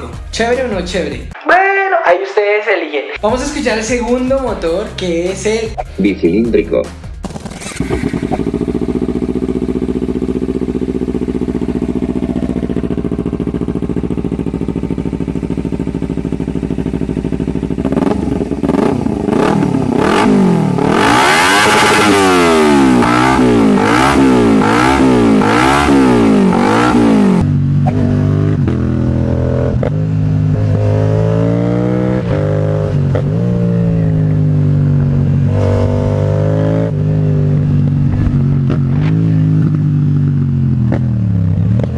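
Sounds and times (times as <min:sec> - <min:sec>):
motorcycle engine idling and revving: 0:07.0 - 0:41.9.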